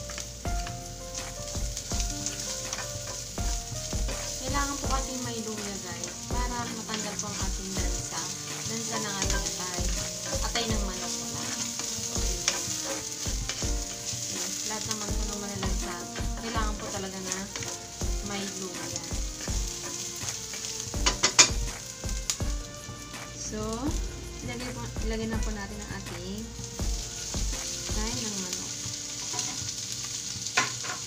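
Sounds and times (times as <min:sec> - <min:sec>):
background music with steady beat: 0:00.0 - 0:30.6
garlic sizzling in hot oil: 0:00.0 - 0:31.0
wooden spatula stirring: 0:00.0 - 0:31.0.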